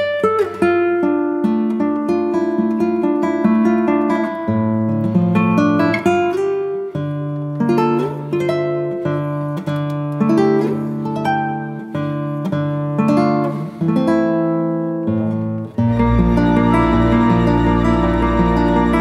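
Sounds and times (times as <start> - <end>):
acoustic guitar playing chords: 0.0 - 19.0.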